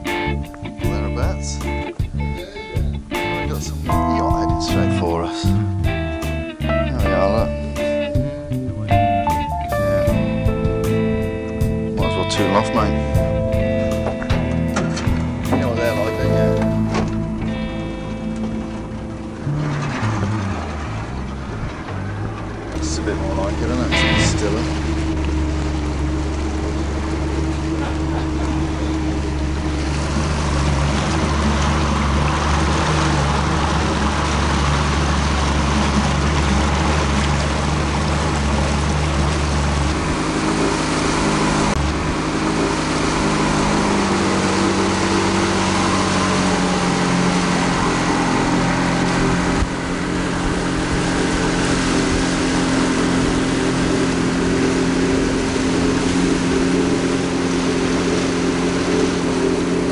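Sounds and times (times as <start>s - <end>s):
motorboat engine running: 0.0s - 59.9s
rushing water: 9.4s - 59.9s.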